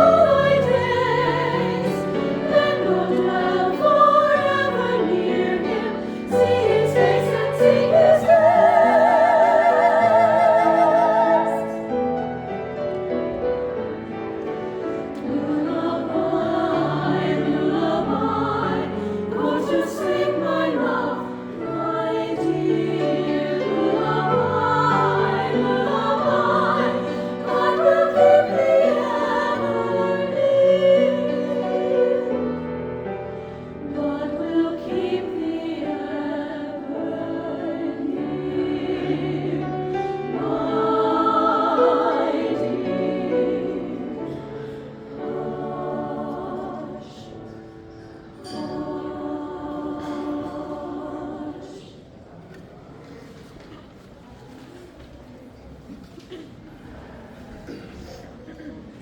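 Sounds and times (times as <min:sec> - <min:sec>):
choir singing in parts: 0:00.0 - 0:52.3.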